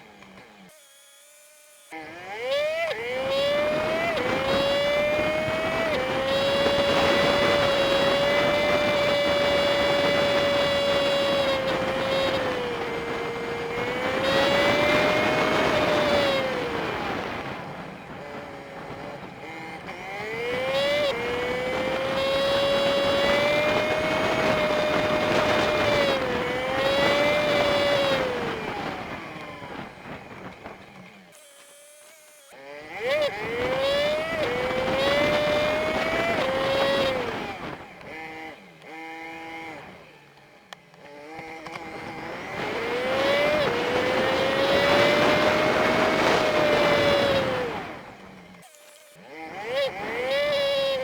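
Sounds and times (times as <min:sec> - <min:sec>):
high whining motorbike engine: 0:00.0 - 0:51.0
wind and road noise: 0:01.9 - 0:51.0.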